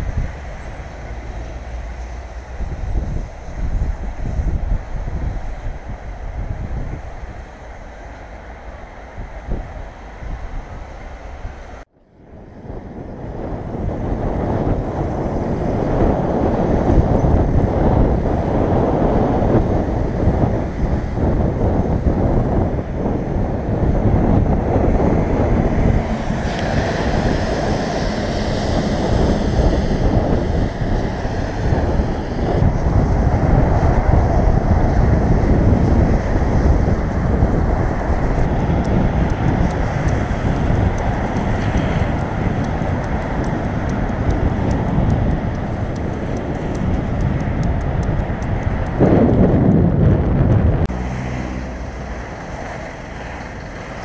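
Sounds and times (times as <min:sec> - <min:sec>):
road traffic: 0:00.0 - 0:54.0
wind buffeting microphone: 0:00.0 - 0:54.0.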